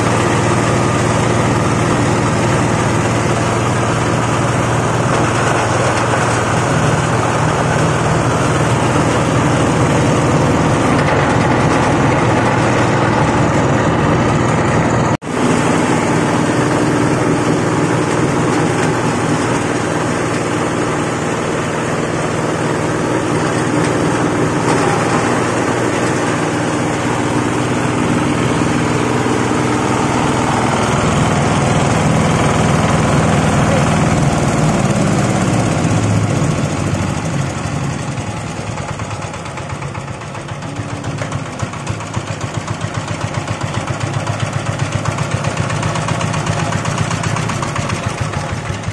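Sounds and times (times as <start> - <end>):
shredding machine drone: 0.0 - 48.9.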